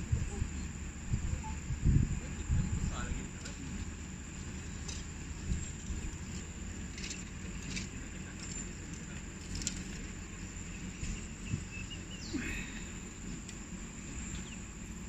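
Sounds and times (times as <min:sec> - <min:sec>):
high insect drone: 0:00.0 - 0:15.0
low rumble: 0:00.0 - 0:15.0.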